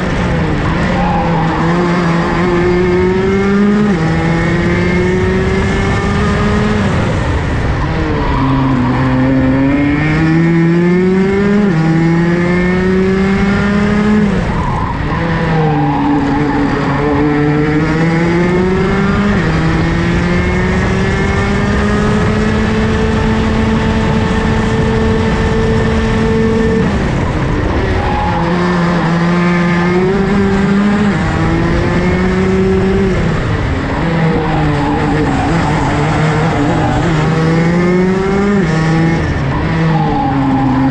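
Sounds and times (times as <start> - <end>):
two-stroke kart engine racing: 0.0 - 40.9.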